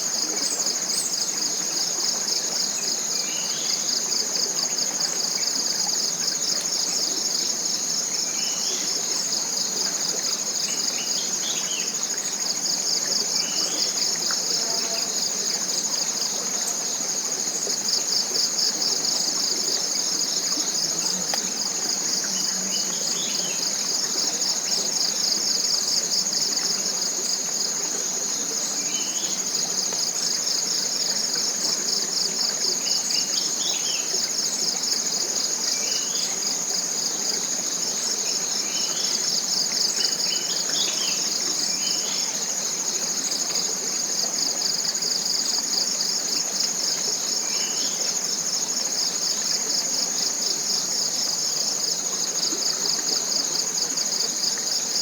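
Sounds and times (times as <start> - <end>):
insect chorus pulsing: 0.0 - 55.0.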